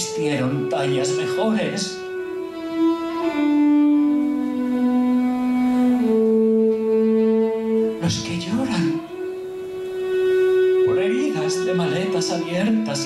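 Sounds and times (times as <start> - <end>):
solo violin long bowed notes: 0.0 - 13.0.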